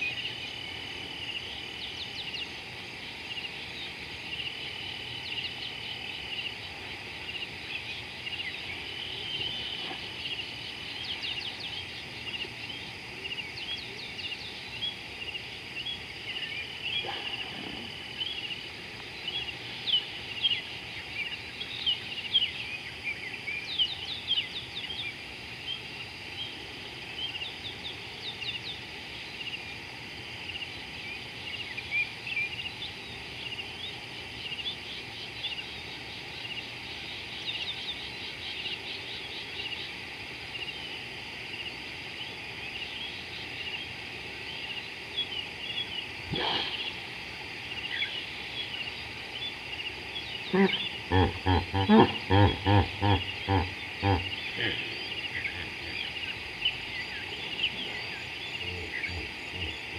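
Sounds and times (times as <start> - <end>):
wild birds chirping: 0.0 - 59.9.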